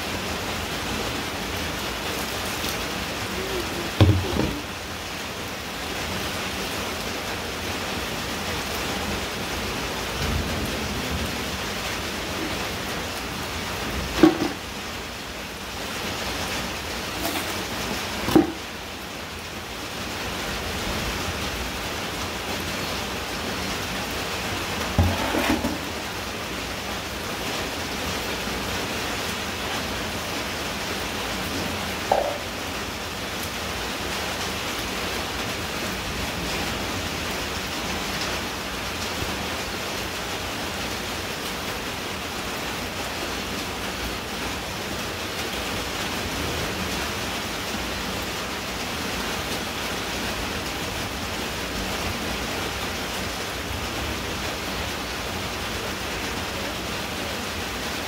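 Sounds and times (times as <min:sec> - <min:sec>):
steady rain on wet ground: 0:00.0 - 0:58.0.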